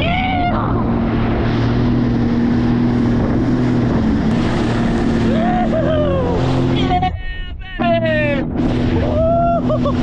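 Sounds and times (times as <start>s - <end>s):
jet ski engine running: 0.0s - 7.2s, 7.8s - 10.0s
wind and rushing water: 0.0s - 10.0s.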